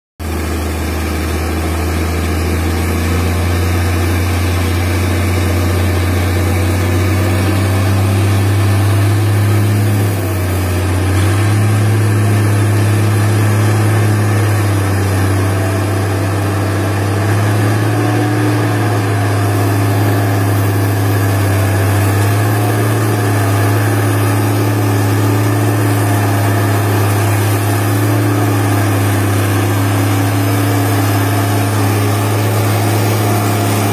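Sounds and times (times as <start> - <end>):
tractor engine under load: 0.2 - 33.9.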